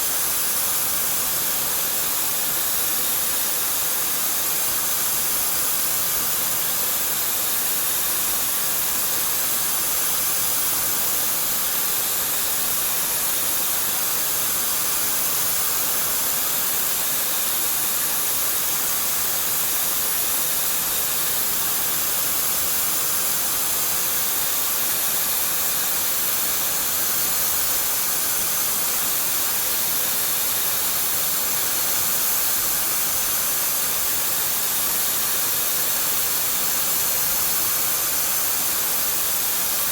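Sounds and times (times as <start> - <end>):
machine cutting hiss: 0.0 - 39.9.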